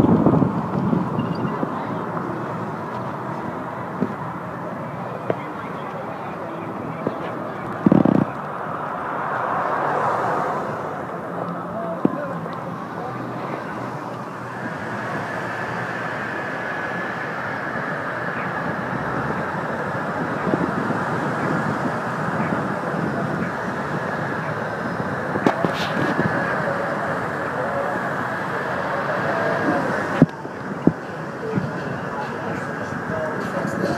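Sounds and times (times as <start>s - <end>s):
road noise inside moving car: 0.0s - 33.9s.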